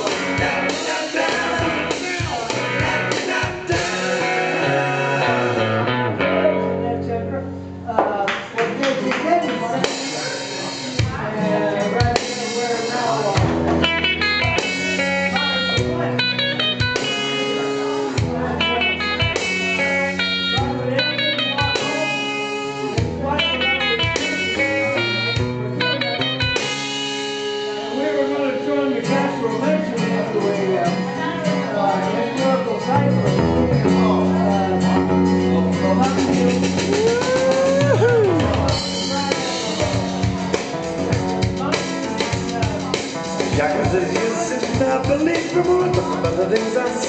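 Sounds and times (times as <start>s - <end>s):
drums: 0.0s - 6.4s, 8.1s - 28.3s, 29.0s - 47.0s
bass line: 0.0s - 8.0s, 10.9s - 30.2s, 30.9s - 47.0s
guitar riff: 0.0s - 8.0s, 8.8s - 47.0s.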